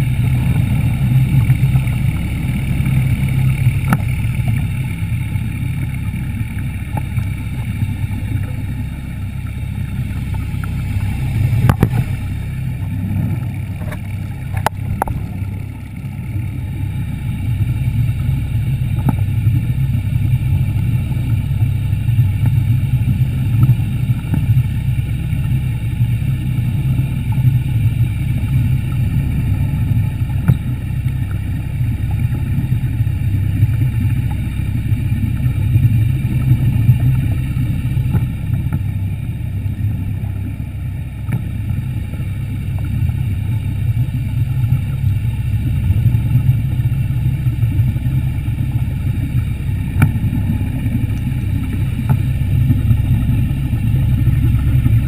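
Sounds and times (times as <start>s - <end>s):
underwater scooter motor rumble: 0.0s - 55.0s.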